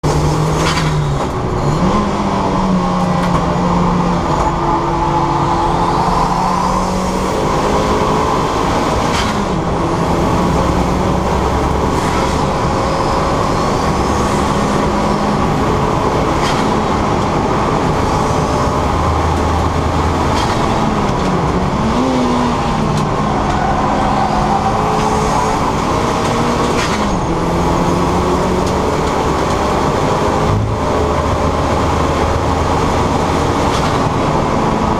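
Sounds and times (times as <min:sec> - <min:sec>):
car engine revving hard: 0:00.0 - 0:34.9
loud rushing noise: 0:00.0 - 0:34.9.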